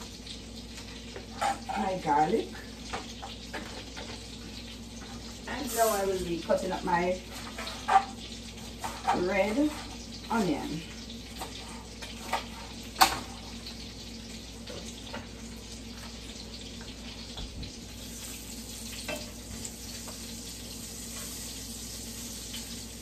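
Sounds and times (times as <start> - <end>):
sausages sizzling in a skillet: 0.0 - 23.0.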